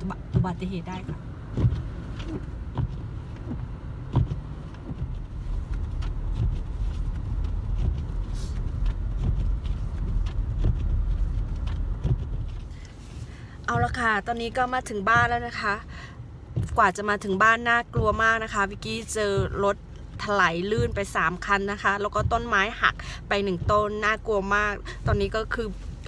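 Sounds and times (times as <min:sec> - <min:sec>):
car driving on snowy road: 0:00.0 - 0:26.0.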